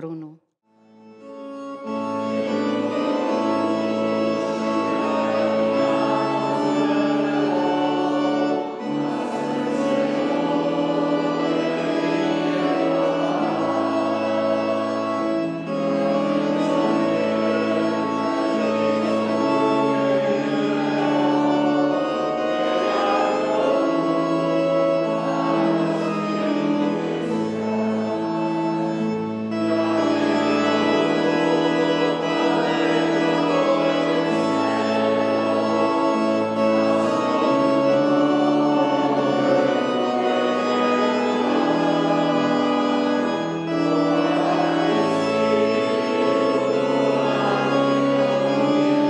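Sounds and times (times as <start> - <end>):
organ playing held chords: 0.0 - 49.0
congregation singing: 1.0 - 49.0.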